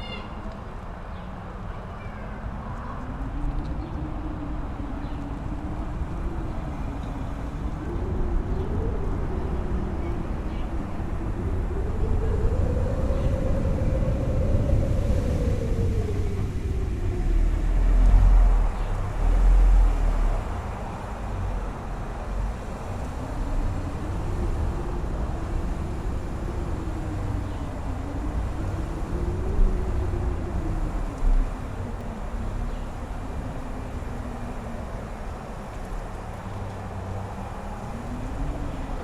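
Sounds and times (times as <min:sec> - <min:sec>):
wind gusts buffeting microphone: 0:00.0 - 0:39.0
wind howling and whistling: 0:00.0 - 0:39.0.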